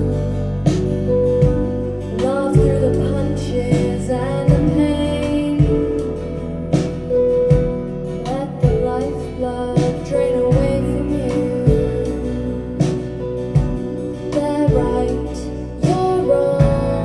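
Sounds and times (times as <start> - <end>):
bass line: 0.0 - 17.0.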